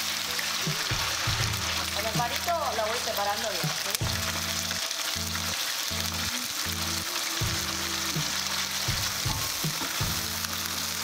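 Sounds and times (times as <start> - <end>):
beef sizzling in hot oil: 0.0 - 11.0.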